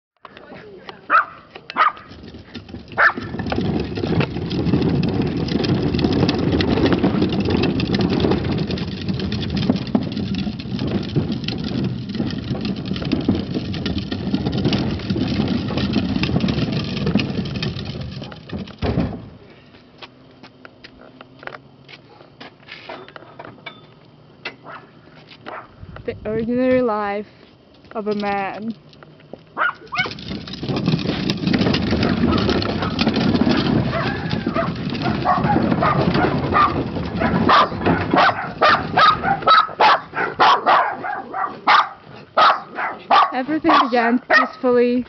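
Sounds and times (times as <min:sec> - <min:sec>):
cart wheels rolling on concrete: 0:00.2 - 0:45.0.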